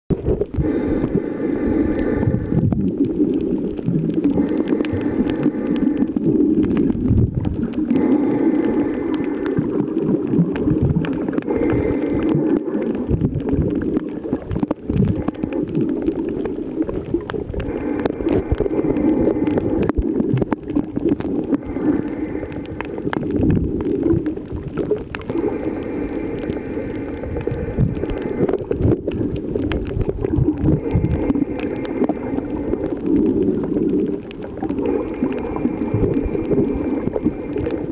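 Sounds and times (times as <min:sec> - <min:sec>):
underwater rush of water: 0:00.1 - 0:37.9.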